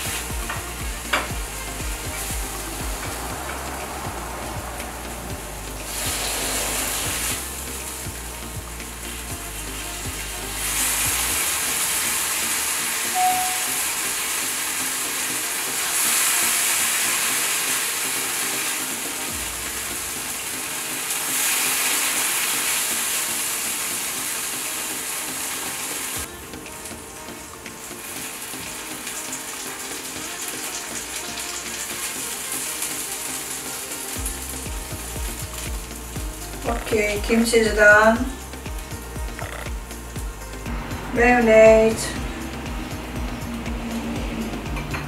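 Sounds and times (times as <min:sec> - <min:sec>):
food sizzling on a griddle: 0:00.0 - 0:45.0.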